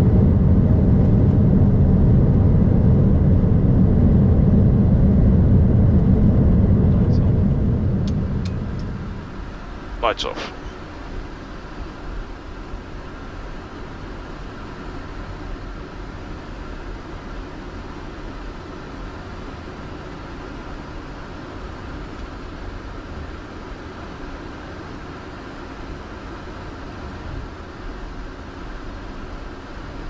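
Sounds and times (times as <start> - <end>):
airliner engines idling: 0.0 - 30.0.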